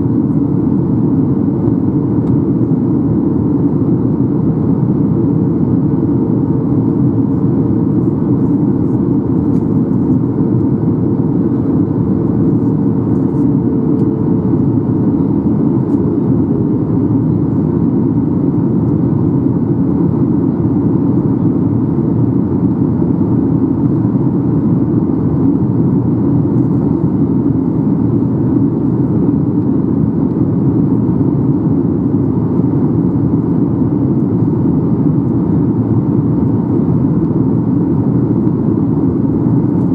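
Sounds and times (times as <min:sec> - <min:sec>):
airplane cabin roar: 0:00.0 - 0:39.9
faint hum: 0:00.0 - 0:39.9.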